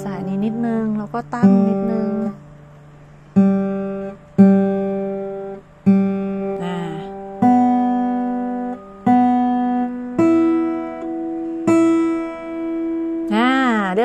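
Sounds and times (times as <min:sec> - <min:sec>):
guitar strings plucked: 0:00.0 - 0:14.0.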